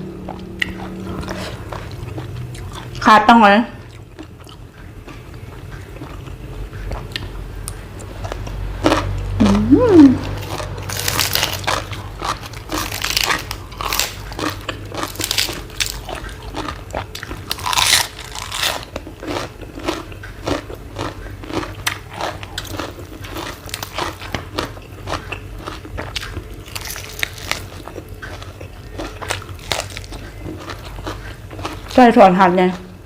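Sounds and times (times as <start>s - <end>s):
person chewing crunchy food: 0.0s - 3.1s, 3.8s - 33.0s.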